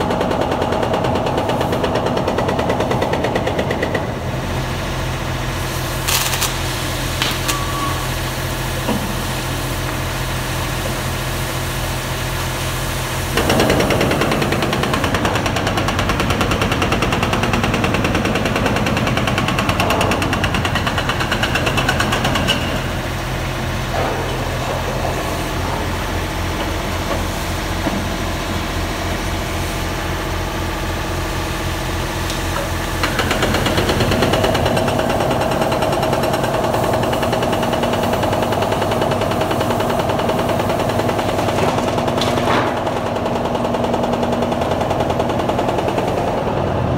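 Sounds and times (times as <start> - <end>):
heavy machine engine drone: 0.0 - 46.9.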